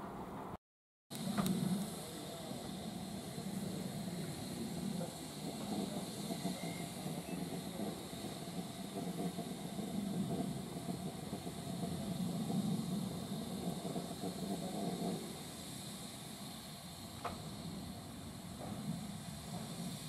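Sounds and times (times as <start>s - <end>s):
steam locomotive rumbling with hiss: 1.1s - 20.0s.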